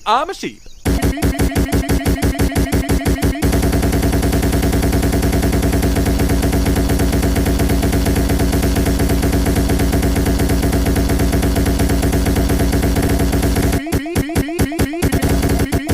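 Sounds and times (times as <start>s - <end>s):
fast rattle of pulses: 0.8s - 15.9s
steady low hum: 0.8s - 15.9s.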